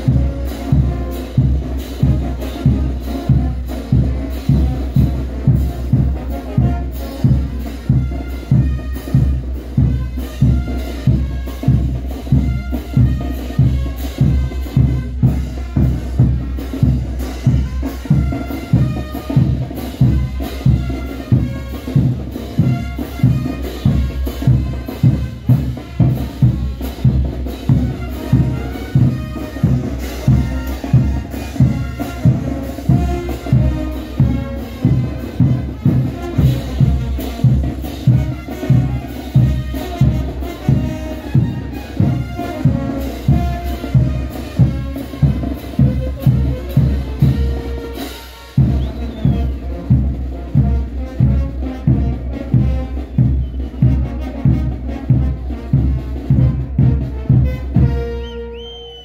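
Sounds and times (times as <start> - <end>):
steady drum beat: 0.0 - 58.6
wind instruments playing melody: 0.0 - 59.0.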